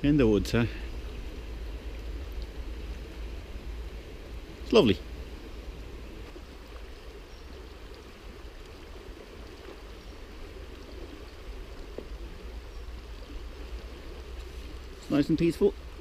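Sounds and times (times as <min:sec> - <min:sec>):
low steady rumble: 0:00.0 - 0:16.0
river rushing and babbling: 0:00.0 - 0:16.0.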